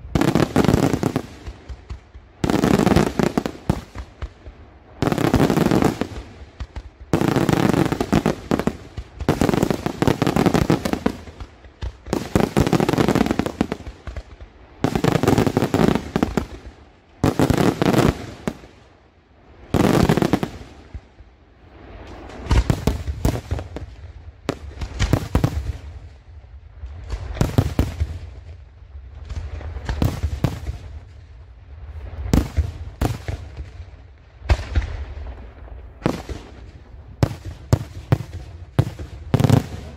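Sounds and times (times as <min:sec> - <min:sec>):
deep fireworks booms: 0:00.0 - 0:18.9, 0:19.5 - 0:39.9.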